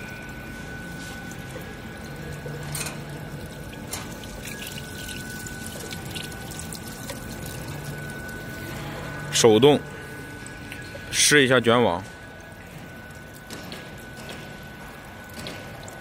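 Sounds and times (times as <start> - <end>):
thin whine: 0.0 - 15.3
low hum: 0.0 - 16.0
water running: 0.0 - 16.0.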